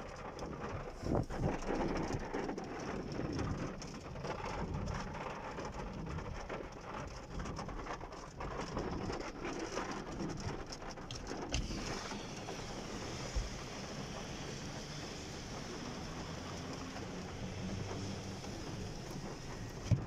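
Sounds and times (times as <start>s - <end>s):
heavy rain on a car roof: 0.0s - 20.0s.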